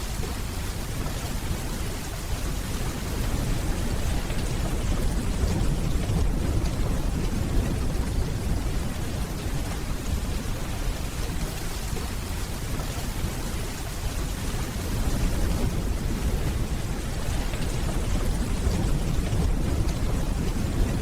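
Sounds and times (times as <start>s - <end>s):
steady rainfall: 0.0s - 21.0s
distant thunder rumbling: 2.4s - 21.0s.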